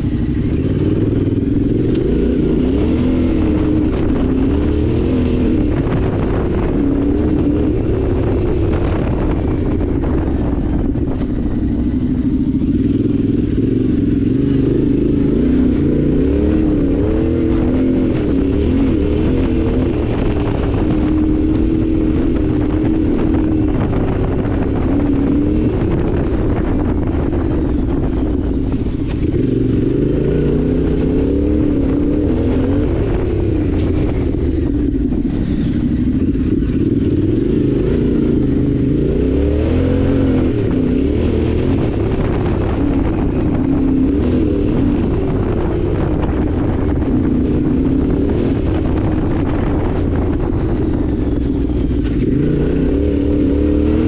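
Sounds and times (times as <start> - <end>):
motorcycle engine revving: 0.0 - 54.0
wind noise rushing: 0.0 - 54.0.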